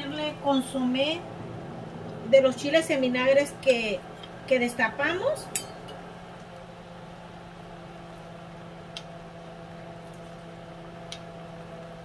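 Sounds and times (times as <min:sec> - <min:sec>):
low kitchen hum with hiss: 0:00.0 - 0:12.0.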